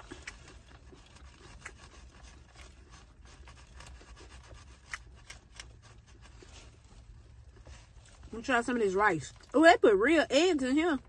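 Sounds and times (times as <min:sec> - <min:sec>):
chewing: 0:00.0 - 0:09.6.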